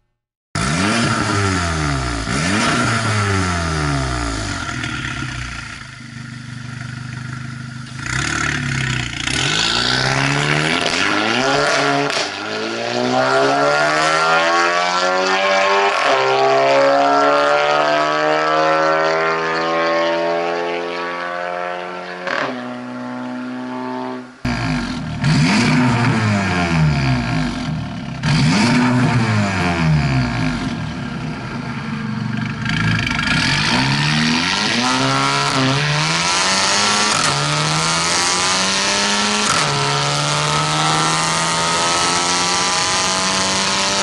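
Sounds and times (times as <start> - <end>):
car engine revving: 0.6 - 44.0.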